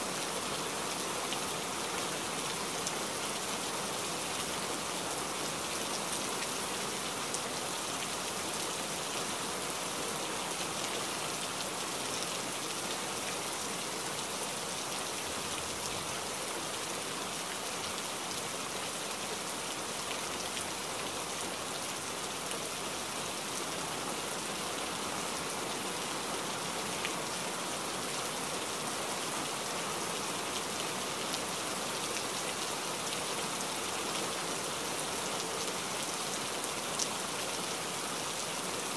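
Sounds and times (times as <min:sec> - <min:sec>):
rain falling in a forest: 0:00.0 - 0:38.9.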